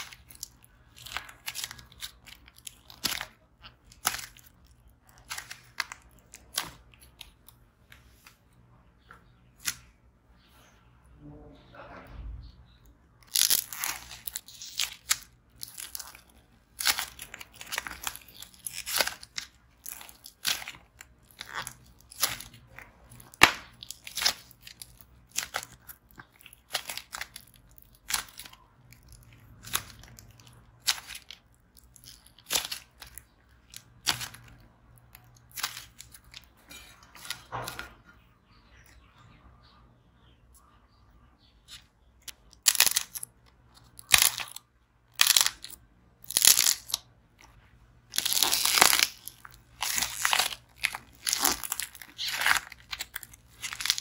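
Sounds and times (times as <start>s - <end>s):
clay cracking and crunching: 0.0s - 7.6s, 12.8s - 39.0s, 41.6s - 54.0s.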